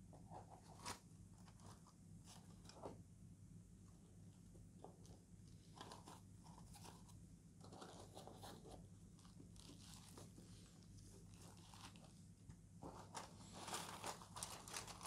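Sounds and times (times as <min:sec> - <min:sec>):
low steady hum: 0:00.0 - 0:15.0
rustling and crinkling plastic: 0:00.4 - 0:03.0, 0:04.9 - 0:15.0.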